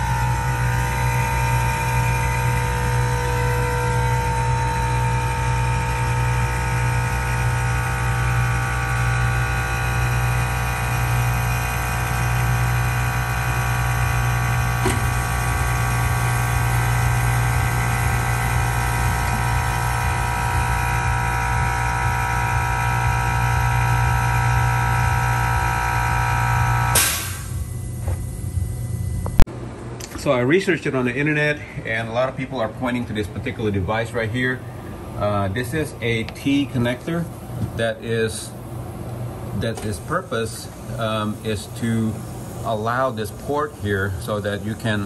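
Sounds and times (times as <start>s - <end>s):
air compressor pump humming: 0.0s - 45.0s.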